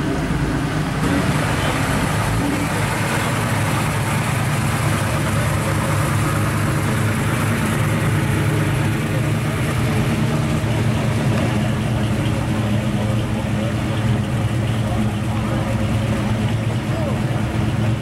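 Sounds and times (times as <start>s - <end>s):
car engine at low revs: 0.0s - 18.0s.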